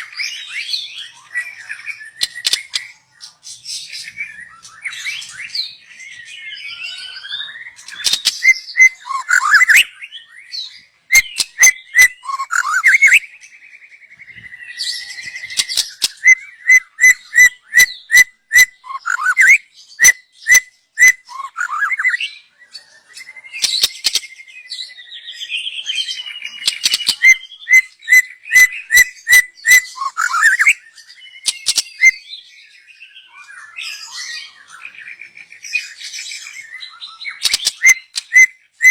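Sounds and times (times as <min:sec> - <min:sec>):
bird singing whistled phrases: 0:03.9 - 0:38.9.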